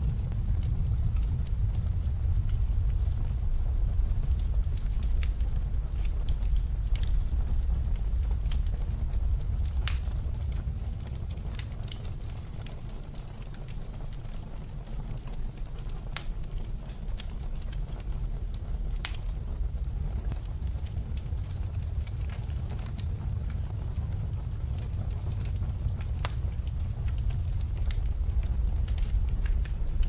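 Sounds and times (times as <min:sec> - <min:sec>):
blizzard wind rumble: 0:00.0 - 0:30.0
fire popping: 0:00.0 - 0:30.0
fireplace crackling: 0:00.0 - 0:30.0.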